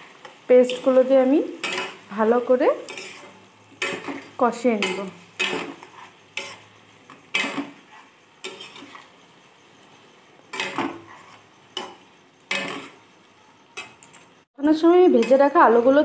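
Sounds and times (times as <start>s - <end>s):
faint sizzle: 0.0s - 16.0s
spatula scraping a frying pan: 0.1s - 14.5s.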